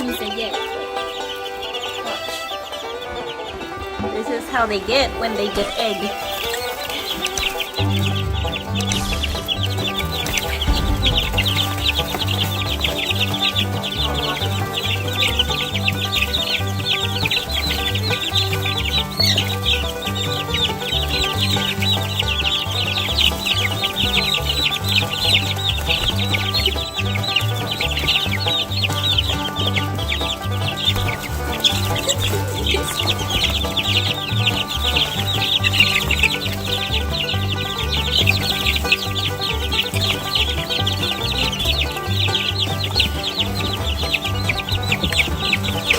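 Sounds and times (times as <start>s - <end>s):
background music with bass line: 0.0s - 45.9s
chicks peeping: 0.0s - 45.9s.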